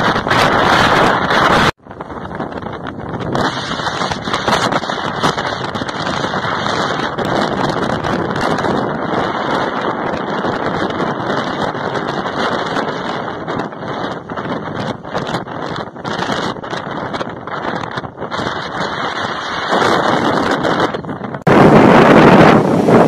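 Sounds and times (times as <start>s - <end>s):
crackles from wind gusts: 0.0s - 23.0s
wind buffeting microphone: 0.0s - 23.0s.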